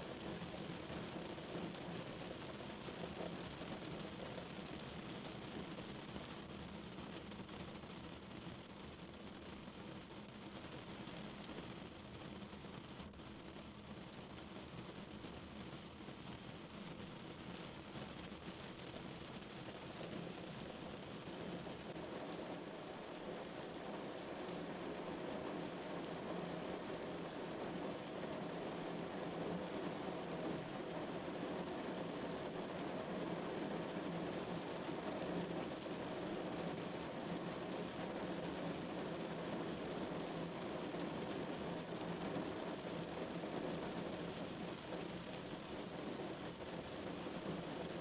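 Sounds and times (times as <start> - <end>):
rain pattering on a car: 0.0 - 48.0.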